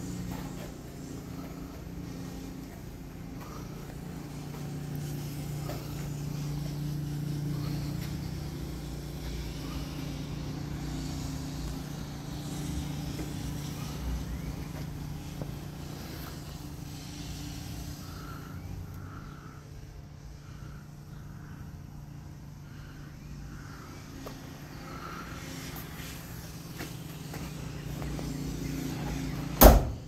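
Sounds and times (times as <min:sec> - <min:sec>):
car engine idling: 0:00.0 - 0:29.7.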